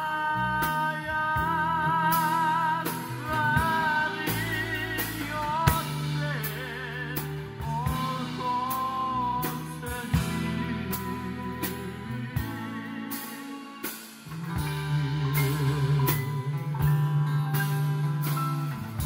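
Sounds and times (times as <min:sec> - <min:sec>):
drum kit steady beat: 0:00.0 - 0:19.0
electric bass: 0:00.0 - 0:19.0
keyboard: 0:00.0 - 0:19.0
man singing with vibrato: 0:00.0 - 0:19.0.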